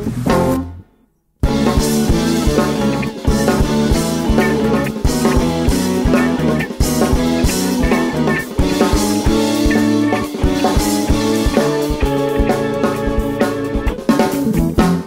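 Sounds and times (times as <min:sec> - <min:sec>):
drum kit steady beat: 0:01.4 - 0:15.0
electric guitar: 0:01.4 - 0:15.0.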